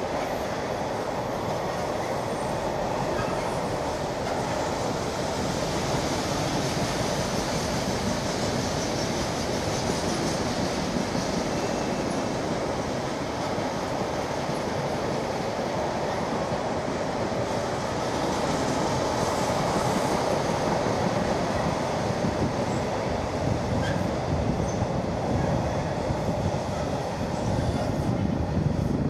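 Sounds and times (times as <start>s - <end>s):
train wheels on rails: 0.0s - 29.0s.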